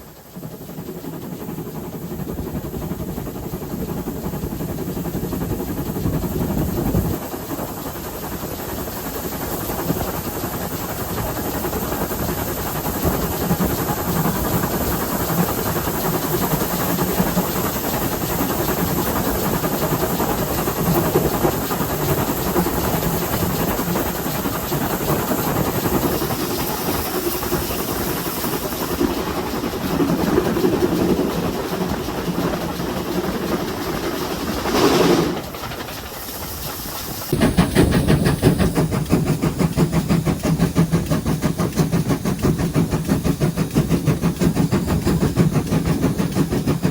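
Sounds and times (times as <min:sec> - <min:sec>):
steam locomotive running: 0:00.0 - 0:46.9
steam hiss: 0:04.8 - 0:46.9.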